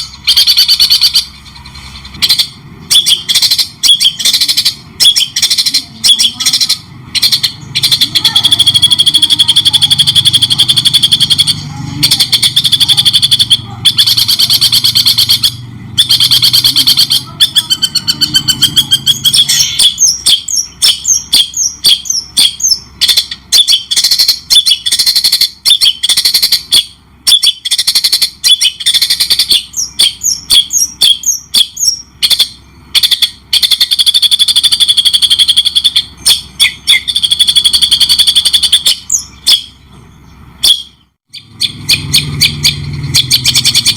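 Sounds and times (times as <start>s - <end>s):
bird chirps: 0.0s - 43.9s
songbird rattling trills: 0.0s - 43.9s.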